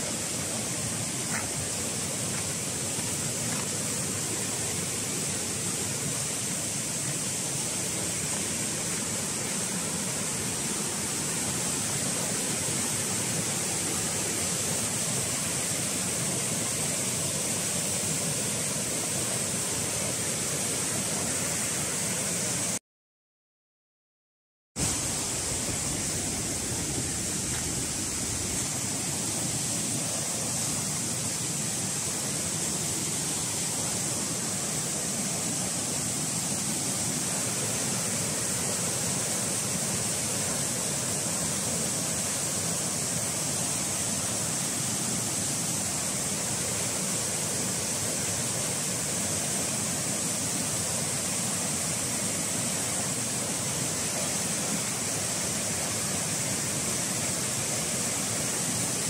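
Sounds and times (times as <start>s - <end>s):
stream water rushing: 0.0s - 22.8s, 24.8s - 59.0s.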